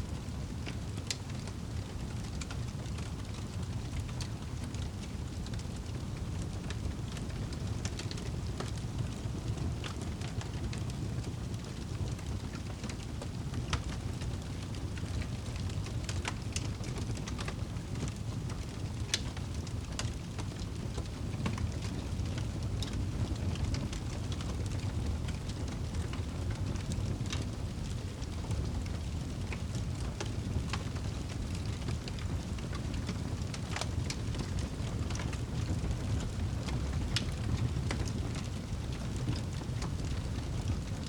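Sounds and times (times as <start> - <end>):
fire crackling and popping: 0.1 - 41.0.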